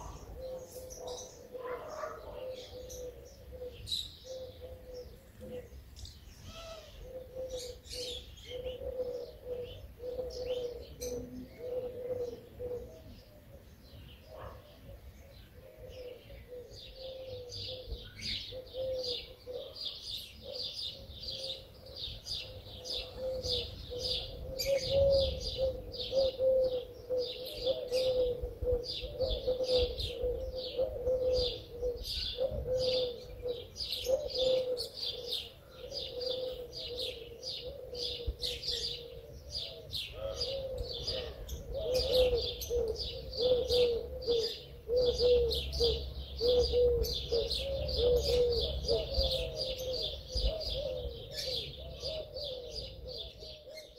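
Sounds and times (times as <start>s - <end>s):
pigeon cooing: 0.0s - 53.9s
small songbirds chirping: 0.0s - 53.9s.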